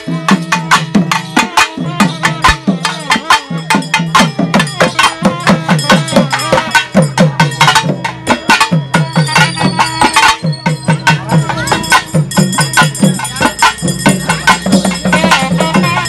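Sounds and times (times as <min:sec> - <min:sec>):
fast barrel drumming: 0:00.0 - 0:16.0.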